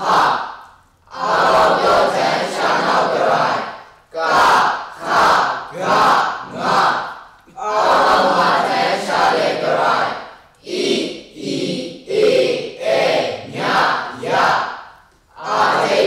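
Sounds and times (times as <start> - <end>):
students reciting in unison: 0.0 - 16.0.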